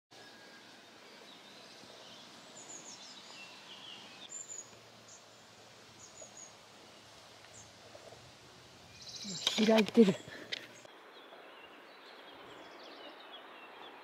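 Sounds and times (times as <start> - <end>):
steady hiss: 0.2 - 12.7.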